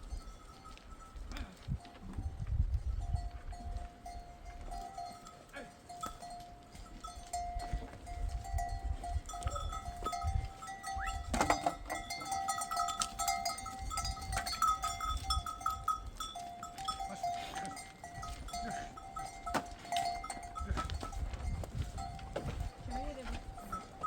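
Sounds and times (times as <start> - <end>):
animal bells clinking: 0.0 - 24.0.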